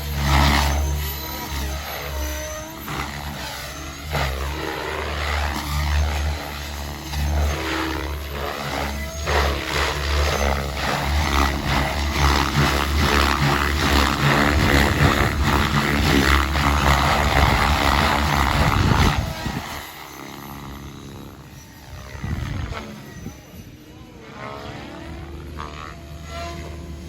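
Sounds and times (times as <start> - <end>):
electric motor whine: 0.0 - 27.0
helicopter rotor blades chopping: 0.0 - 27.0.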